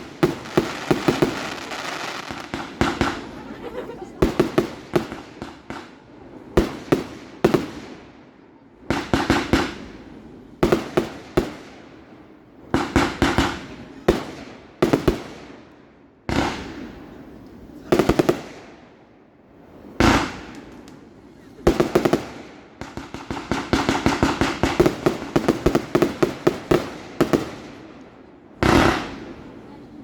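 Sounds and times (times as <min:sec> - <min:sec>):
fireworks bangs: 0:00.0 - 0:08.2, 0:08.8 - 0:15.6, 0:16.3 - 0:18.9, 0:19.6 - 0:29.8
echo of fireworks: 0:00.0 - 0:30.0.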